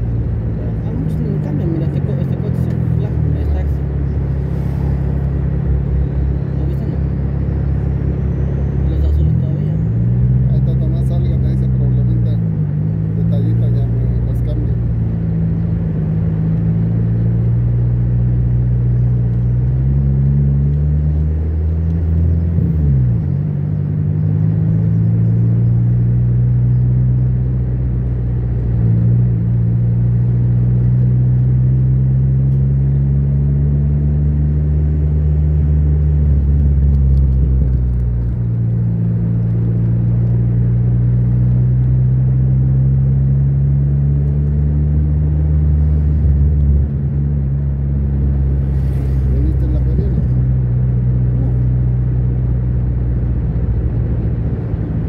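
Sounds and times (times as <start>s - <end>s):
car engine hum: 0.0s - 55.0s
road noise: 0.0s - 55.0s.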